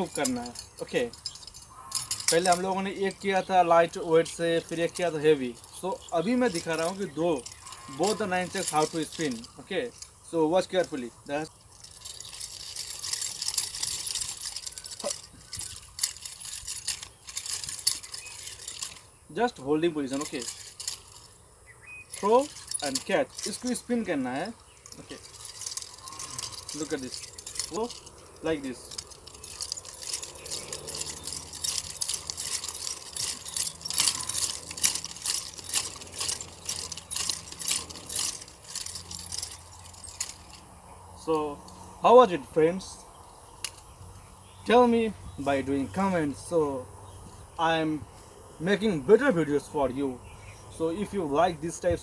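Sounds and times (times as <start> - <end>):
metal chains jingling: 0.0 - 42.9.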